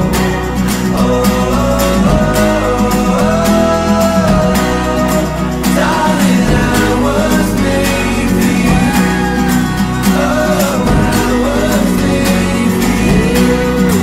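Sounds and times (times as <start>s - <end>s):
love song with sung vocals: 0.0s - 14.0s
steady beat: 0.0s - 14.0s.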